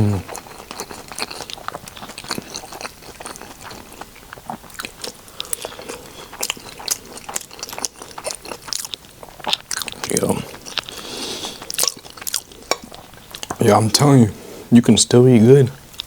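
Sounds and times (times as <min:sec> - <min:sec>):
person chewing and biting: 0:00.0 - 0:13.6.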